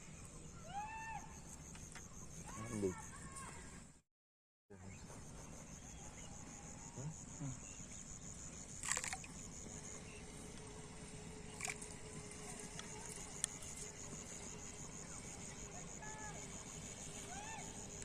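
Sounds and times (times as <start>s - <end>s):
insects chirring: 0.0s - 3.9s, 4.7s - 18.0s.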